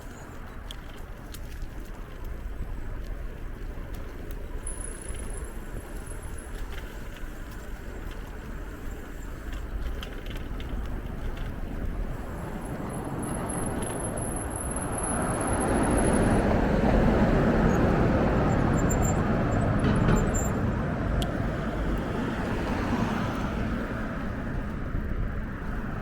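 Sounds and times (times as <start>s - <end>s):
bicycle road noise: 0.0s - 26.0s.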